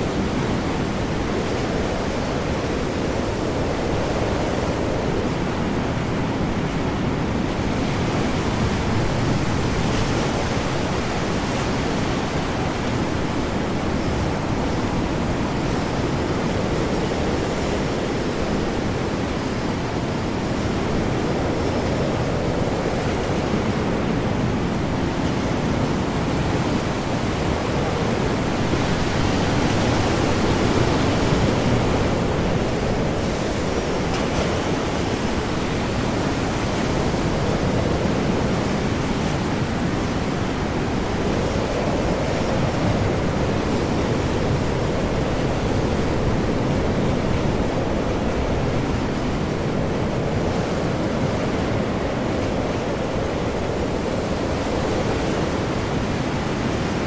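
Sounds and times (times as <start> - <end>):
high wind: 0.0 - 57.0
large waves crashing: 0.0 - 57.0.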